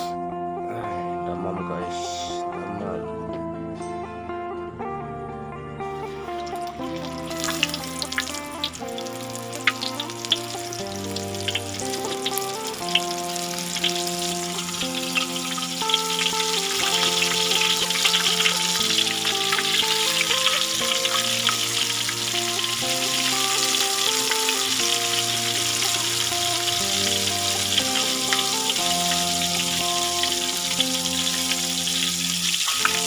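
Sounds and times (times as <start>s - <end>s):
background music: 0.0s - 33.0s
deep-frying sizzle in oil: 6.4s - 33.0s.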